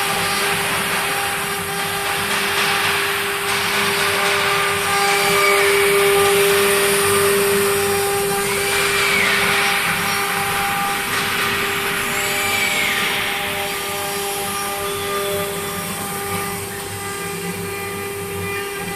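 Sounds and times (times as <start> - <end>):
router spindle whining: 0.0 - 18.9.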